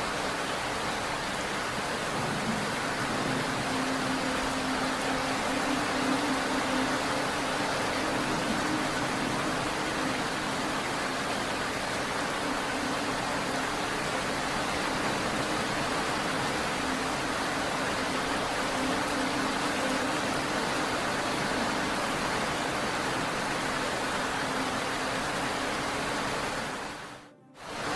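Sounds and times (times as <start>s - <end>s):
steady rain hiss: 0.0s - 27.9s.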